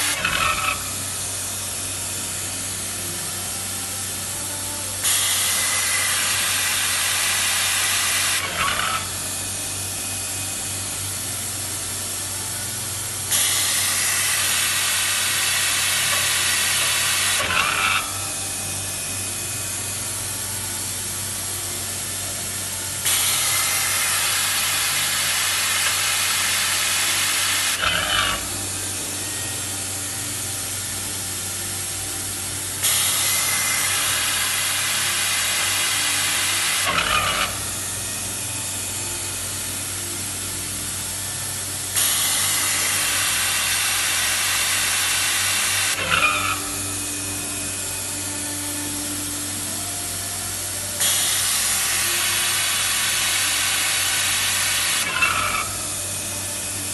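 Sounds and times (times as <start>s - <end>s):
low machine hum: 0.0s - 7.3s, 9.0s - 26.5s, 27.7s - 45.4s, 46.0s - 54.5s.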